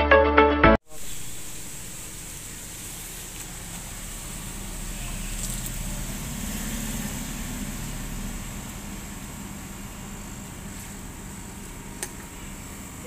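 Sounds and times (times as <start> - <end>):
air conditioner unit humming: 0.9 - 13.0.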